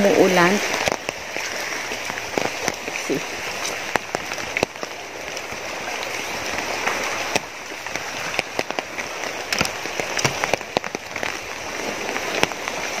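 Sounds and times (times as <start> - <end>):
raindrops tapping on umbrella: 0.0 - 13.0
steady rain: 0.0 - 13.0.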